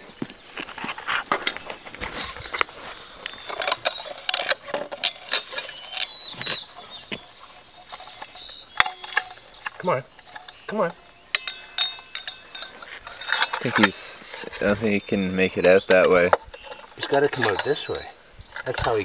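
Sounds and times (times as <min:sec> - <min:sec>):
bird feeder rattling: 0:03.4 - 0:19.0.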